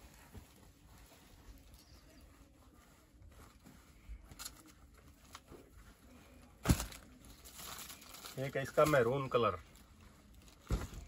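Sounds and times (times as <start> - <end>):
fabric rustling: 0.0 - 11.0.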